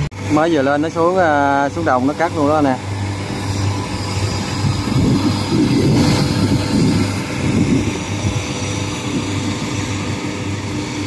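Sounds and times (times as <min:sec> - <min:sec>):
combine harvester engine hum: 0:00.0 - 0:11.0
rough mechanical clatter: 0:00.0 - 0:11.0.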